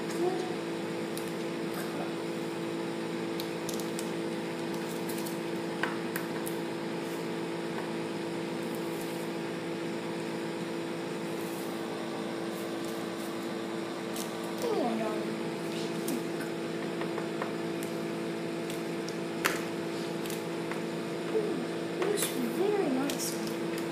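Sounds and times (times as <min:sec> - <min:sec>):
steady background hum: 0:00.0 - 0:23.9.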